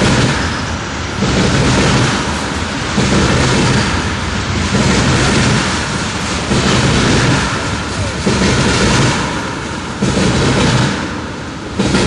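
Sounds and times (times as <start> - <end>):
freight train cars rumbling past: 0.0 - 12.0.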